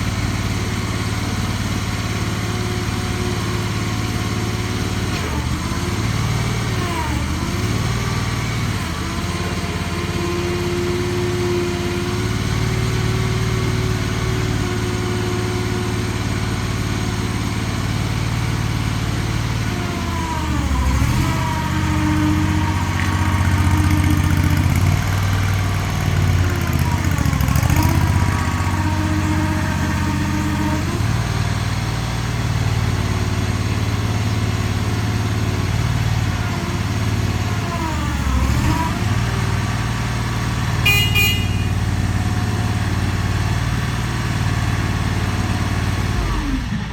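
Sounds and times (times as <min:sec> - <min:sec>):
skid steer engine running: 0:00.0 - 0:46.9.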